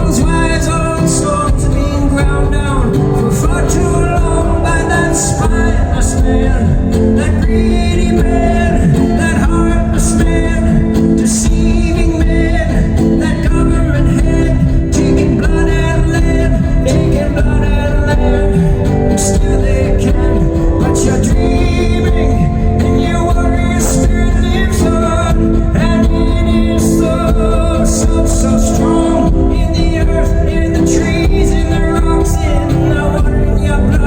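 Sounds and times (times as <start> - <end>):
guitar: 0.0 - 34.0
live band playing: 0.0 - 34.0
wordless singing: 0.0 - 34.0.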